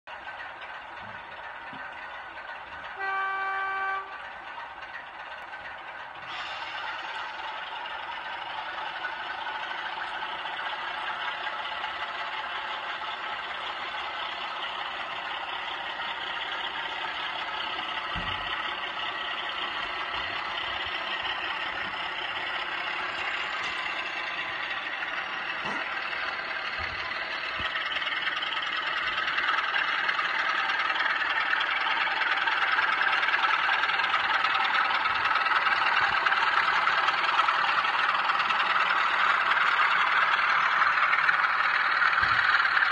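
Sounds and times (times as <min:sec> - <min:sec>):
diesel engine sound from models: 0:00.0 - 0:42.9
model trains rattling on track: 0:00.1 - 0:42.9.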